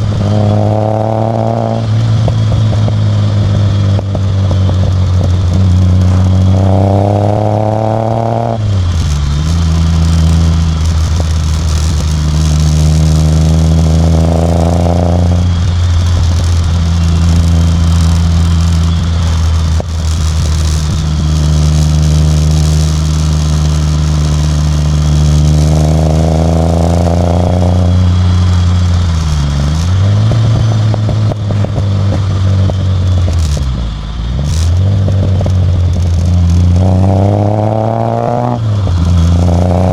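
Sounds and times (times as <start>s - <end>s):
car exhaust engine note: 0.0s - 39.9s.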